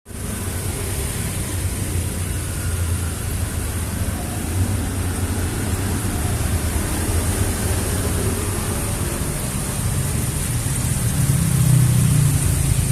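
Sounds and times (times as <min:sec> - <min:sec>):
steady rainfall: 0:00.1 - 0:12.9.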